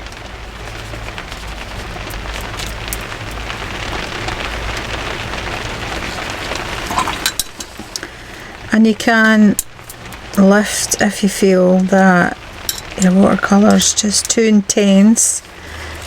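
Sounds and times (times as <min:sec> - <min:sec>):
hard rain pattering: 0:00.0 - 0:16.0.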